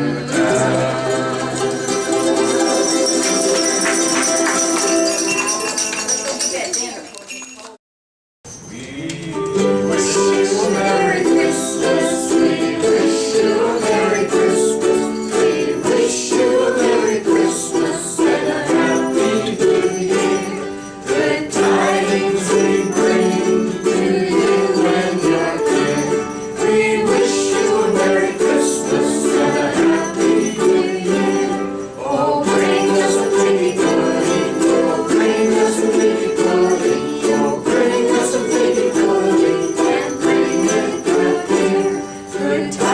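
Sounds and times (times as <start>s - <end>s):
ukuleles strumming: 0.0s - 7.2s, 9.1s - 42.9s
jingle bells shaking: 0.0s - 7.8s, 8.5s - 42.9s.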